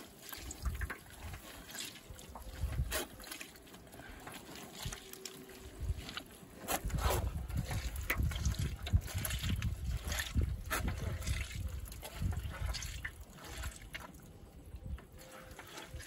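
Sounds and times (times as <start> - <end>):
juice dripping through a sieve: 0.0 - 16.0.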